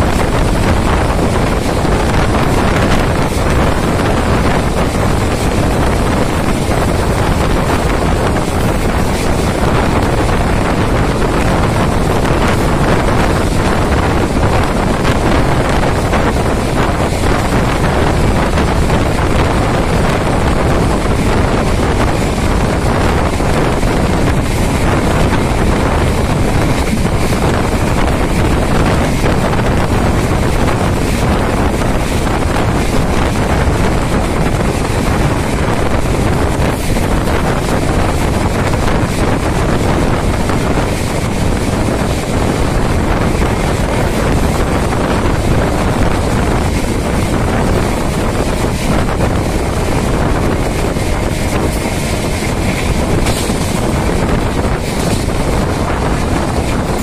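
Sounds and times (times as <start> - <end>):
passenger train rushing: 0.0 - 57.0
wind buffeting microphone: 0.0 - 57.0.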